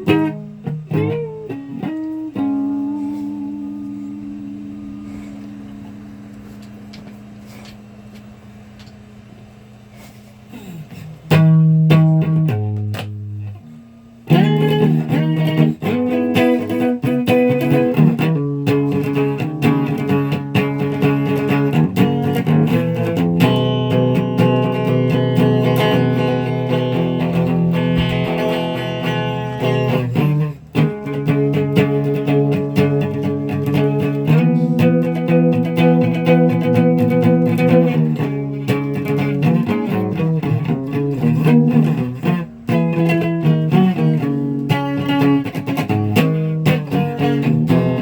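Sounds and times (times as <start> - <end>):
guitar picked notes and strummed chords: 0.0 - 7.3, 10.5 - 48.0.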